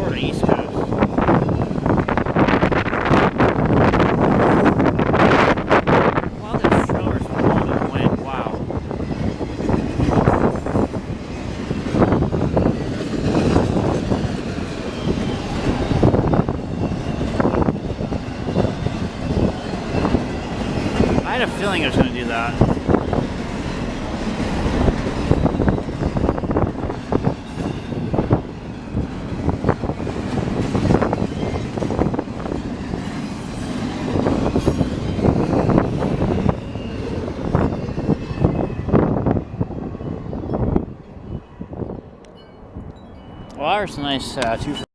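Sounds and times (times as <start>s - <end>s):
train cars clanking: 0.0s - 44.8s
train wheels rumbling on rail: 0.0s - 44.8s.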